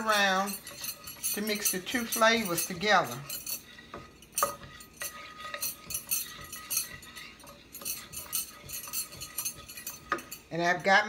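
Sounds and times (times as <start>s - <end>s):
wooden spatula scraping a pan: 0.0s - 11.0s.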